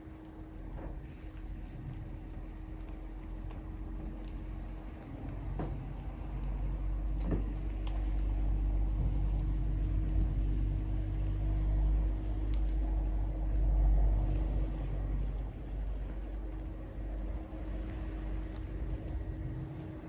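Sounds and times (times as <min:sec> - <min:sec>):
low engine rumble with hum: 0:00.0 - 0:20.0.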